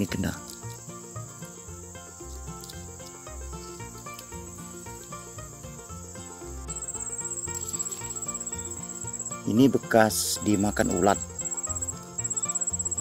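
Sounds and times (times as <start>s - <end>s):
insects chirring: 0.0s - 13.0s
soft background music: 0.0s - 13.0s.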